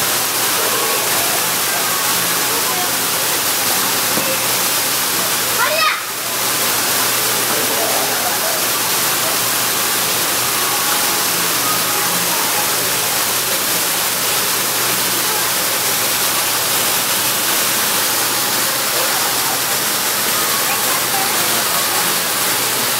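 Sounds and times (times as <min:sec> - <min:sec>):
waterfall splashing into pool: 0:00.0 - 0:22.9.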